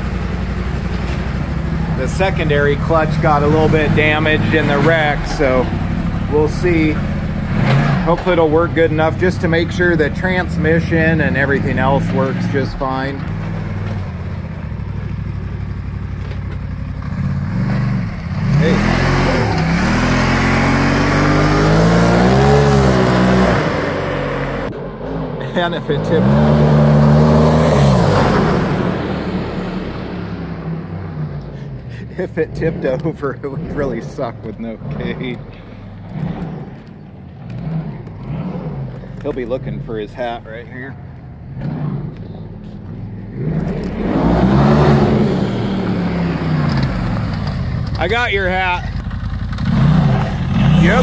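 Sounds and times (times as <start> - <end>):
vehicle engine under throttle: 0.0 - 51.0.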